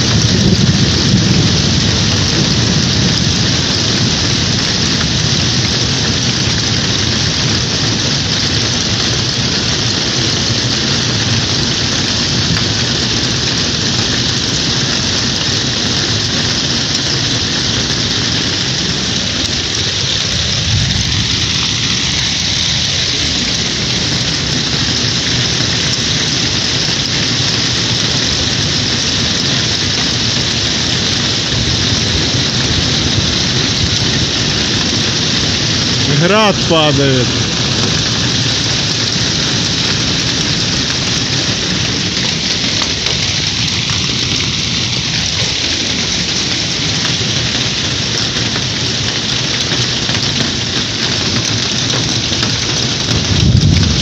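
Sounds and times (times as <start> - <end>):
heavy rain and hail: 0.0 - 54.0.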